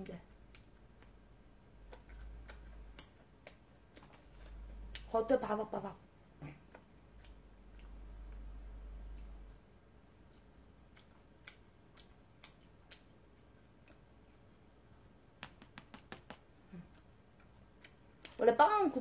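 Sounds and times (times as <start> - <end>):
faint eating clicks: 0.0 - 5.4, 6.5 - 15.0, 16.9 - 18.7.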